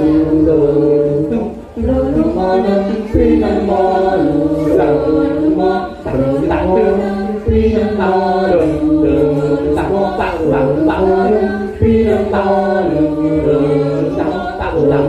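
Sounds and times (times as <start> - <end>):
group of voices chanting: 0.0 - 15.0.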